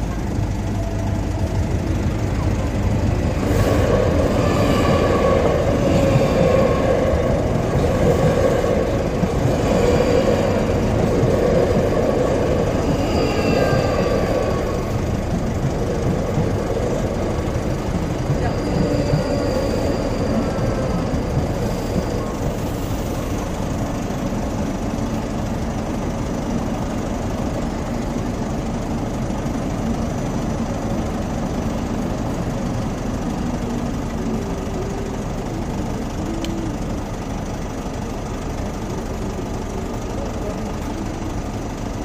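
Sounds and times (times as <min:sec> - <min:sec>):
electric train humming: 0:00.0 - 0:42.0.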